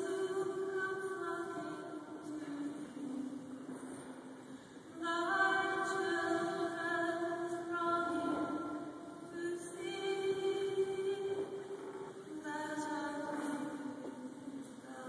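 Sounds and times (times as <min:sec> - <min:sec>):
woman singing hymn with echo: 0:00.0 - 0:15.0.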